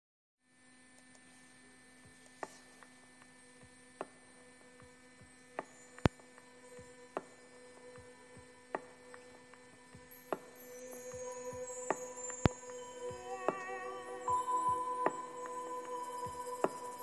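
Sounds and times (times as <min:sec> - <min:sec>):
faint steady hum: 0:00.4 - 0:17.0.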